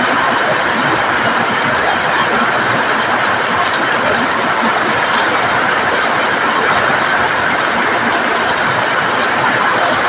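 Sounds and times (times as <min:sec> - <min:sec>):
heavy rain on metal roof: 0:00.0 - 0:10.0.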